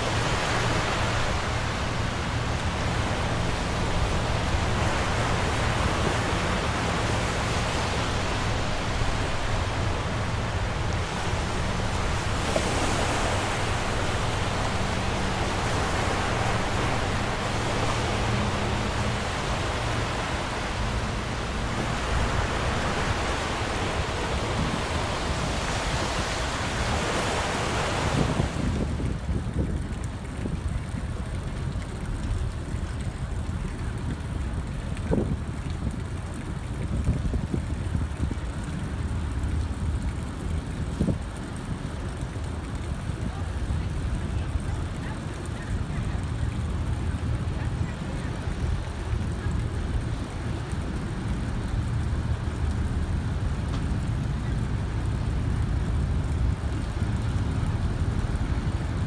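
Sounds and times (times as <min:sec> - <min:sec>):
low ship engine drone: 0:00.0 - 0:59.0
river water: 0:00.0 - 0:59.0
wind on microphone: 0:00.0 - 0:59.0.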